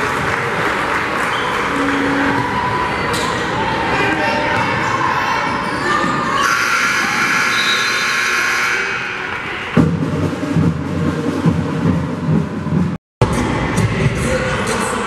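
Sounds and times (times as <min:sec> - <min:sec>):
gymnasium crowd din: 0:00.0 - 0:15.0.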